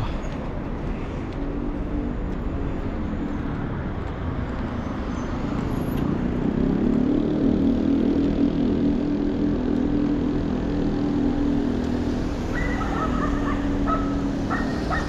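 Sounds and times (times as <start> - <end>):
traffic rumble: 0.0 - 15.0
vehicle engine hum: 0.0 - 15.0.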